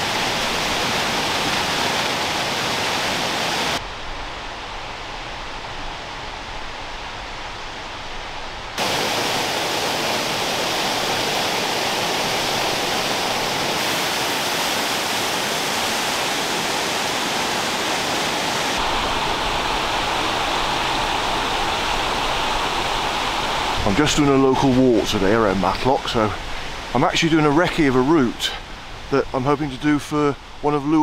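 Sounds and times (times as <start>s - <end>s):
rushing stream and waterfall: 0.0s - 31.0s.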